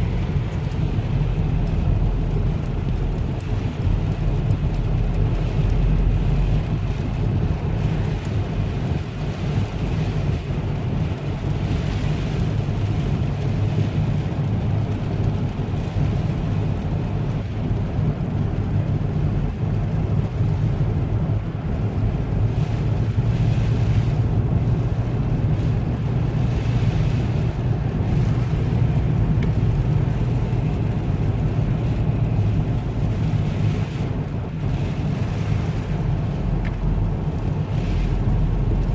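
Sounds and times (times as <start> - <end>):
low rumble of vehicles: 0.0 - 38.9.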